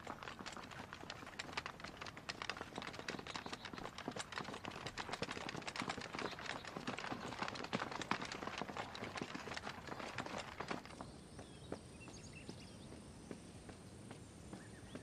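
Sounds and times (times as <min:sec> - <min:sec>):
footsteps on stone path: 0:00.0 - 0:15.0.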